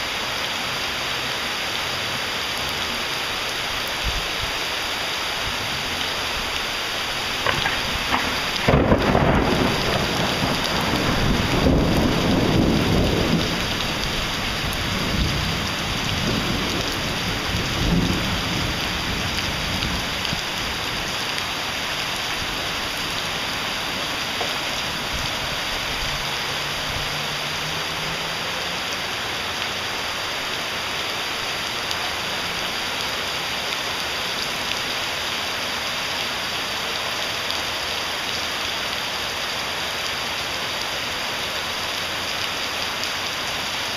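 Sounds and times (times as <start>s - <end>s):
heavy rain on pavement: 0.0s - 43.9s.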